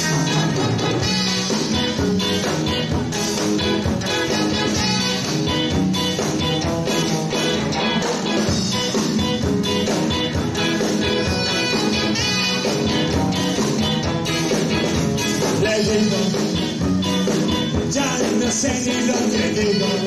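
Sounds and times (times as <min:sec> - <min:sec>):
ska band playing: 0:00.0 - 0:20.0.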